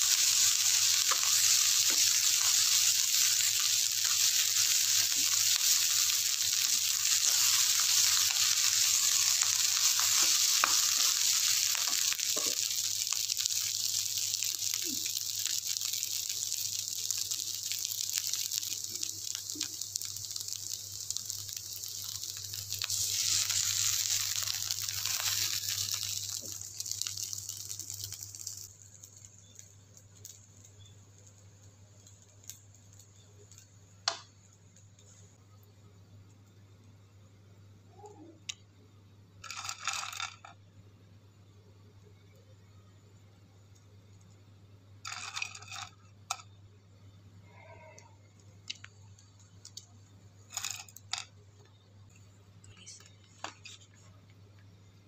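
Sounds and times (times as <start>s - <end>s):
rice sizzling in a wok: 0.0s - 40.7s, 41.3s - 55.0s.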